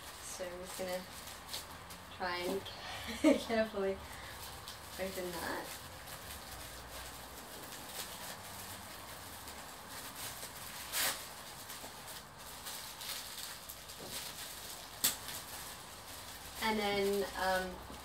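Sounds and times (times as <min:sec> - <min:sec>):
tissue paper rustling and crinkling: 0:00.0 - 0:18.0.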